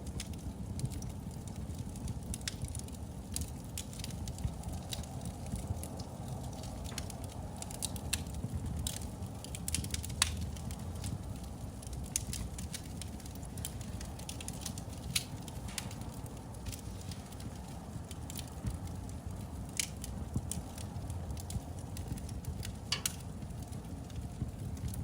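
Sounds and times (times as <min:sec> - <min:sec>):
fire crackles and pops: 0:00.0 - 0:25.0
wood fire rumbling: 0:00.0 - 0:25.0.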